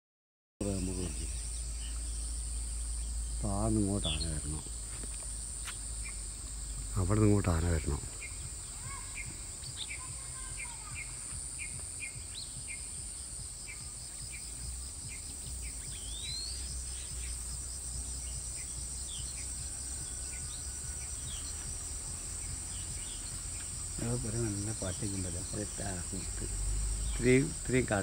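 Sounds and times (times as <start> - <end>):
bird chirps: 0.6 - 28.0
insects chorus: 0.6 - 28.0.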